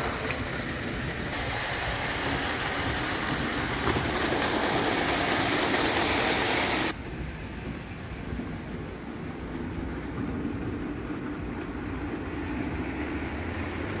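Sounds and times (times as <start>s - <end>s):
model steam train running on track: 0.0s - 14.0s.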